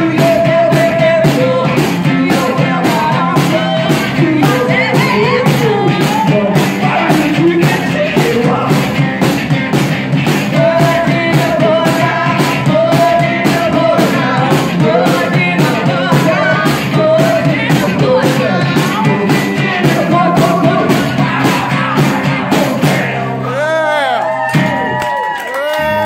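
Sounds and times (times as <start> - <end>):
man singing: 0.0 - 9.3, 10.3 - 24.0
bass drum and snare beat: 0.0 - 23.2, 24.4 - 25.0
distorted electric guitar: 0.0 - 24.1.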